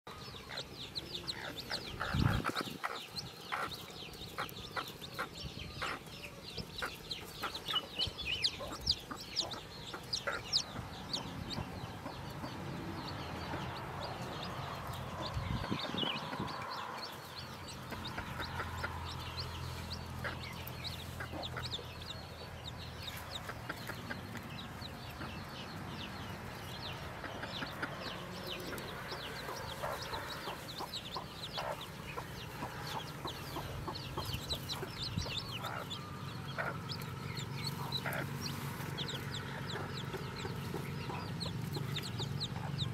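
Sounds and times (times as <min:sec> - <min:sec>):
chicks peeping: 0:00.1 - 0:42.9
hen clucking: 0:00.1 - 0:42.9.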